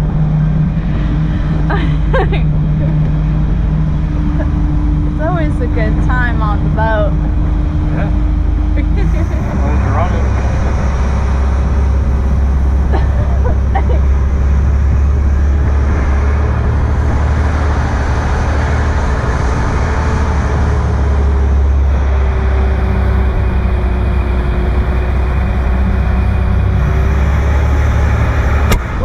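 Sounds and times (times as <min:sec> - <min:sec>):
motorboat engine drone: 0:00.0 - 0:29.0
rushing wind: 0:00.0 - 0:29.0
water noise: 0:00.0 - 0:29.0.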